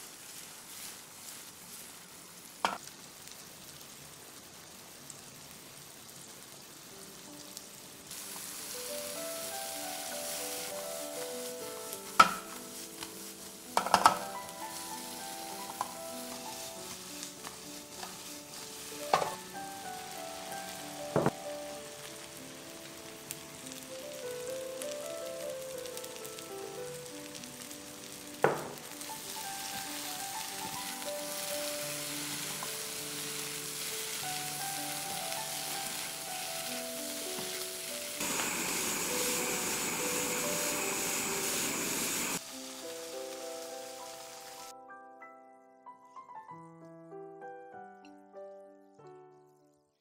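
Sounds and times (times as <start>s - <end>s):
stir-fry sizzling in wok: 0.0s - 44.7s
soft background music: 6.9s - 50.0s.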